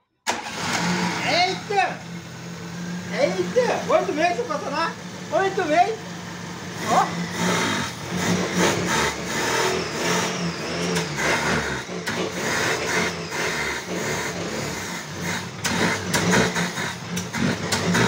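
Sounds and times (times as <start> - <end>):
car engine revving unevenly: 0.3 - 18.0.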